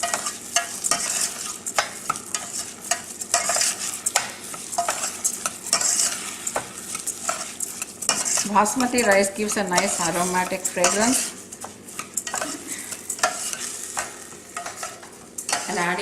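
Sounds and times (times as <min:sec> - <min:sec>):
rice sizzling in a pan: 0:00.0 - 0:16.0
spoon scraping and stirring: 0:00.0 - 0:16.0.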